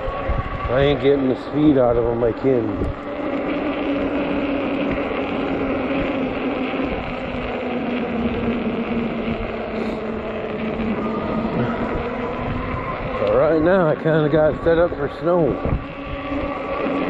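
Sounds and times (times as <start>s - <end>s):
electric hub motor humming: 0.0s - 17.0s
wind noise on microphone: 0.0s - 17.0s.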